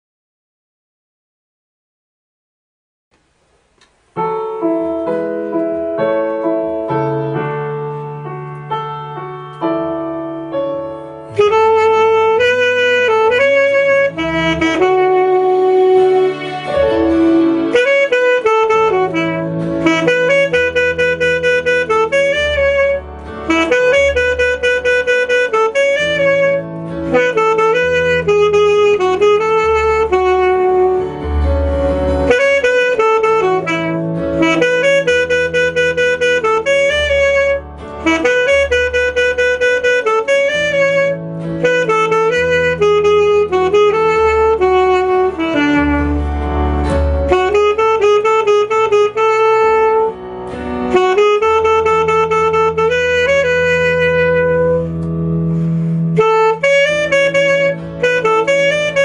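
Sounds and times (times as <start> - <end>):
bass accompaniment: 3.1 - 59.0
piano chords: 3.2 - 59.0
alto saxophone melody: 4.2 - 59.0.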